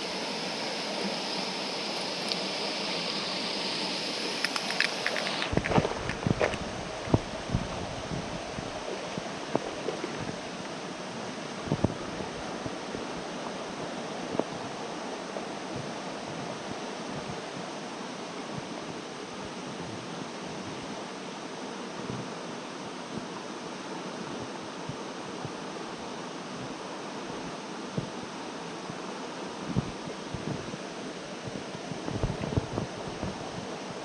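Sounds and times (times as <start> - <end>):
stream water rushing: 0.0 - 19.7, 20.9 - 34.0.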